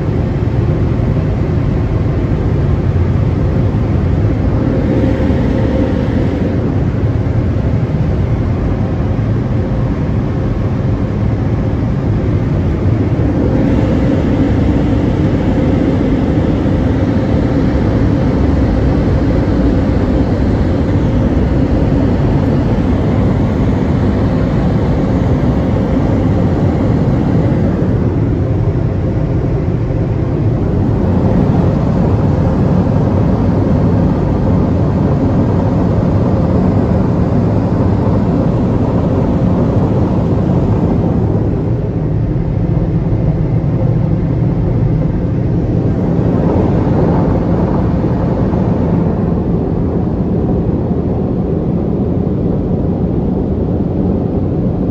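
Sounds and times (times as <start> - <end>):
low hum: 0.0 - 54.9.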